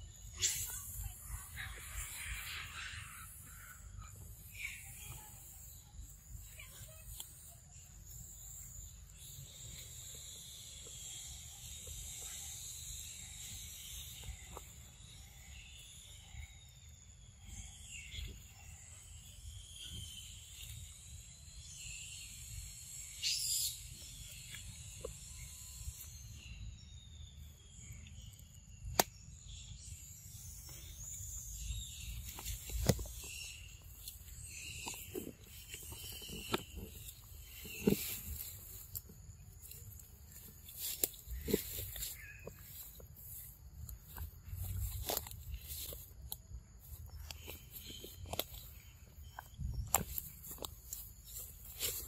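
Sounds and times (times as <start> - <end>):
birds chirping: 0.0 - 52.0
insects droning: 0.0 - 52.0.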